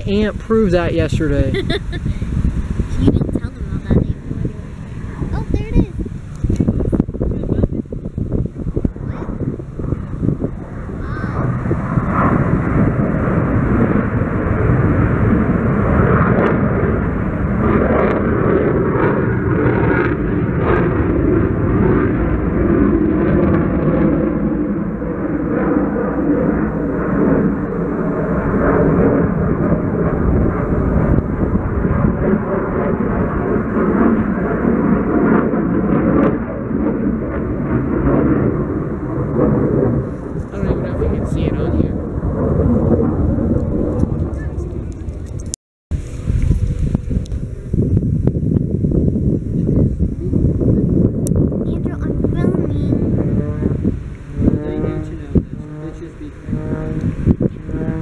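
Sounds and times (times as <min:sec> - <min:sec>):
airplane flying over: 0:00.0 - 0:58.0.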